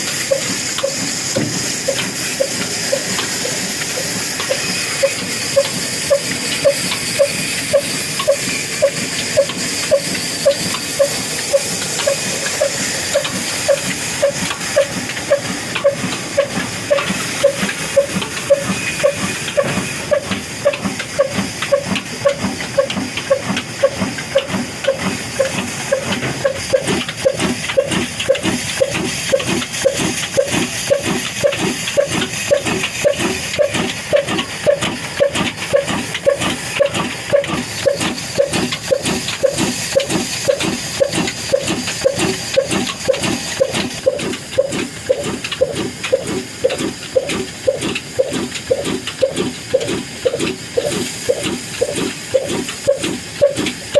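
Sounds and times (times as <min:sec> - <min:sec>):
stationary engine exhaust beating: 0:00.0 - 0:53.9.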